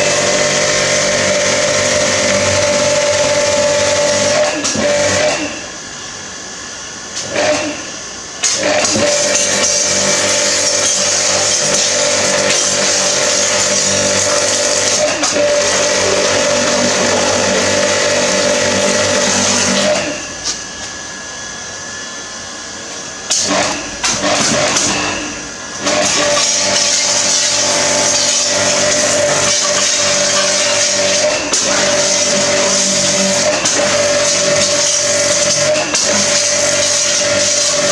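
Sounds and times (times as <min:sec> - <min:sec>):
pressure washer motor running: 0:00.0 - 0:05.6, 0:08.4 - 0:20.3, 0:23.3 - 0:37.9.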